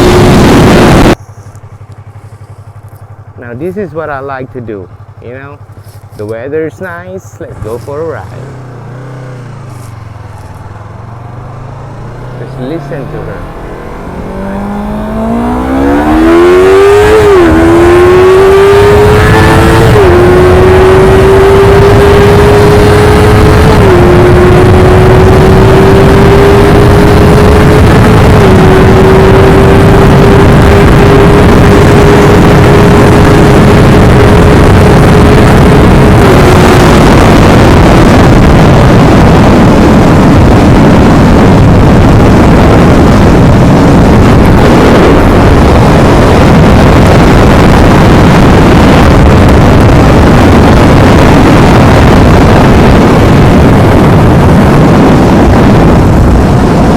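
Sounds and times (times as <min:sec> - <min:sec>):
loud dense rumble: 0:00.0 - 0:56.9
motorcycle engine running: 0:00.0 - 0:56.9.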